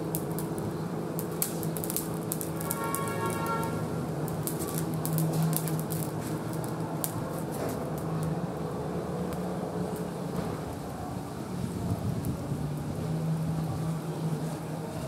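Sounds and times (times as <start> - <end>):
fish grilling over charcoal: 0.0 - 15.0
sharp crackles: 0.0 - 15.0.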